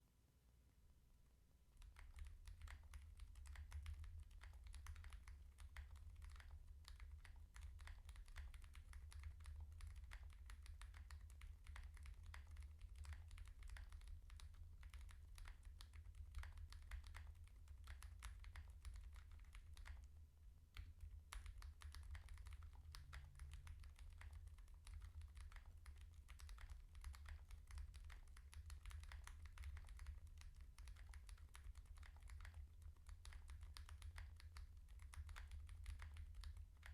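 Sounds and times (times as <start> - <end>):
mechanical keyboard typing: 1.8 - 20.1, 20.8 - 36.9.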